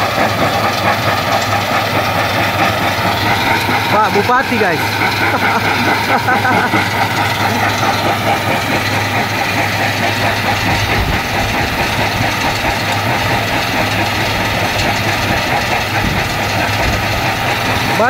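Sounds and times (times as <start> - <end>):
stone crusher running: 0.0 - 18.0.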